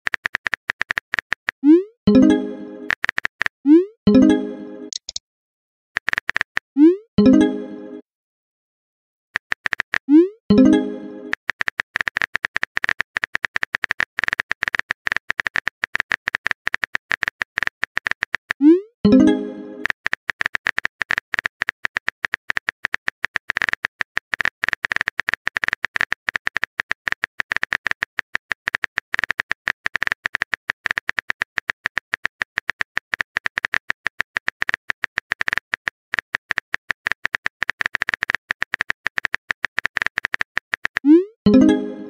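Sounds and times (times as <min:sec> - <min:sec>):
phone keyboard typing taps: 0:00.1 - 0:03.5, 0:04.9 - 0:05.2, 0:09.4 - 0:41.8.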